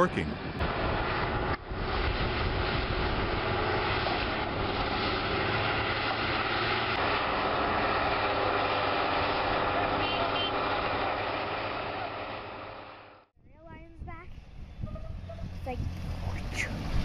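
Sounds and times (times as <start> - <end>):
diesel engines running under load: 0.0 - 17.0.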